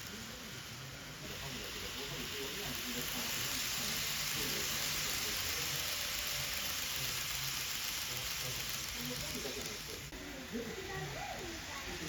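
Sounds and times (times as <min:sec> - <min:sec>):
faint murmuring voices: 0:00.0 - 0:12.0.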